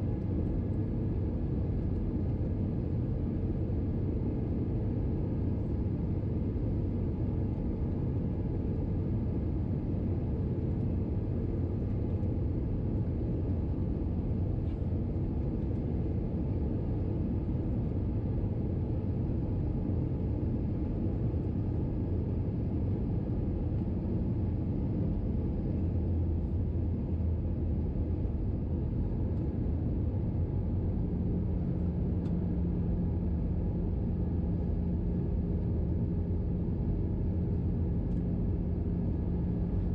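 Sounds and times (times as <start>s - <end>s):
aircraft engines rumbling: 0.0s - 39.9s
low steady hum: 0.0s - 39.9s.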